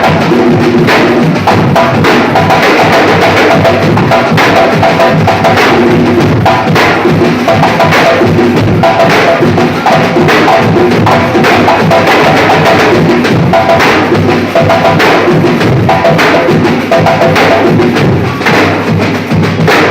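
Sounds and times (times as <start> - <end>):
samba drums beating: 0.0 - 19.9.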